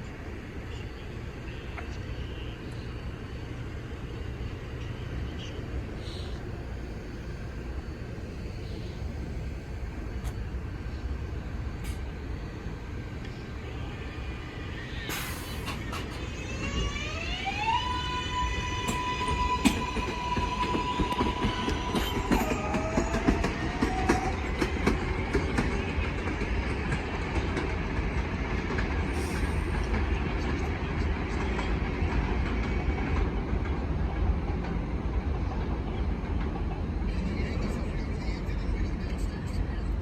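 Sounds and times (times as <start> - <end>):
train wheels rumbling: 0.0 - 40.0
train traction motors whining: 0.4 - 33.7.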